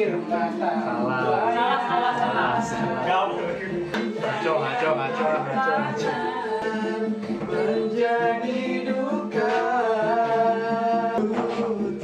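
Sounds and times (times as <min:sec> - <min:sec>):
music with singing voice: 0:00.0 - 0:12.0.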